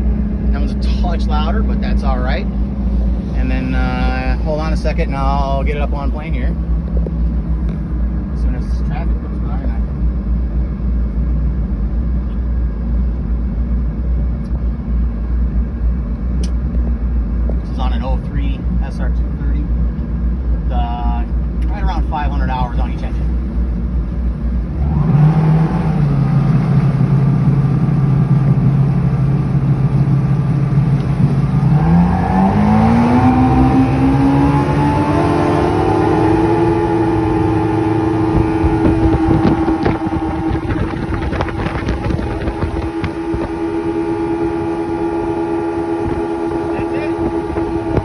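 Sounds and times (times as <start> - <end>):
boat engines throttling up: 0.0 - 48.0.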